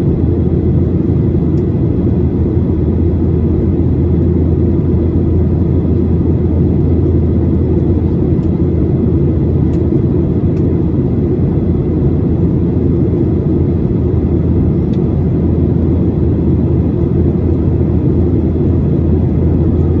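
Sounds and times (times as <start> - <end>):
airliner engine rumble in flight: 0.0 - 20.0.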